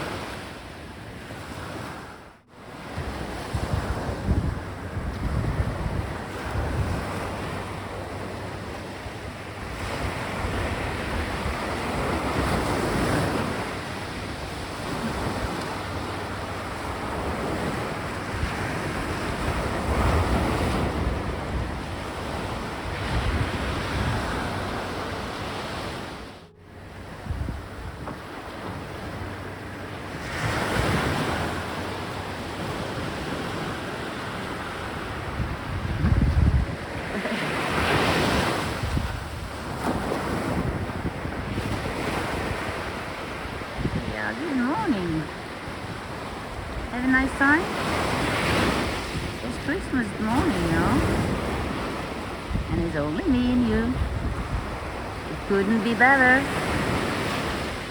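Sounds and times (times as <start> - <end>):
sea surf washing onto beach: 0.0 - 57.9
wind buffeting microphone: 0.0 - 57.9.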